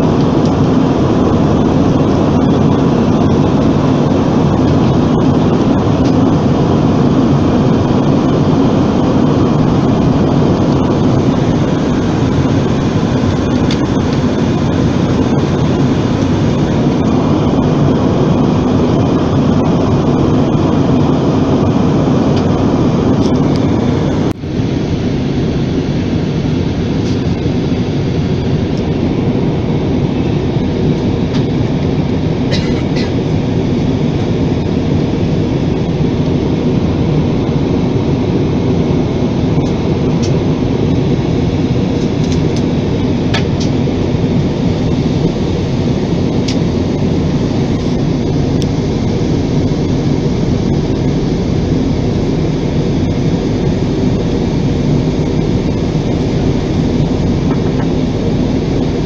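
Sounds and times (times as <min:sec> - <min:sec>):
airliner cabin engine and airflow noise: 0:00.0 - 0:59.0.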